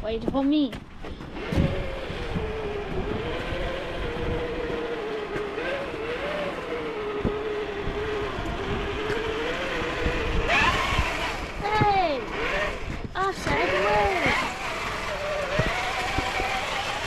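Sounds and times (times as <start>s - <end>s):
electric motor whining: 1.0s - 17.0s.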